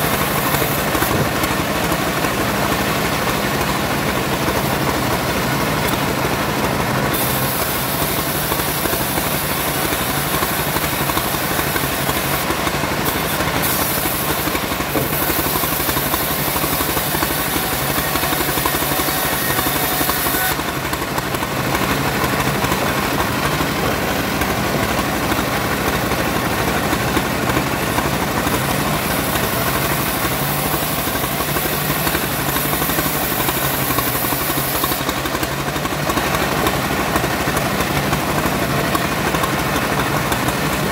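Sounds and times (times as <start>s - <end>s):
bandsaw mill sawing timber: 0.0s - 40.9s.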